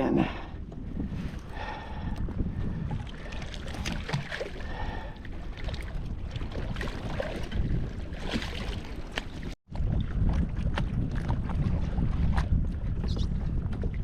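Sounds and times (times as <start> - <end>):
low rumble of open water: 0.0 - 14.0
wind buffeting microphone: 0.0 - 14.0
water splashing against kayak: 0.7 - 14.0.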